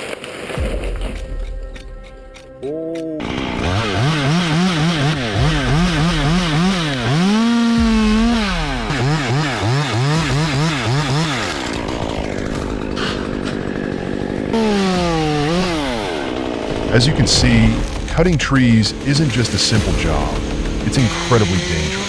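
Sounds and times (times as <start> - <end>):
chainsaw engine revving: 0.6 - 22.0.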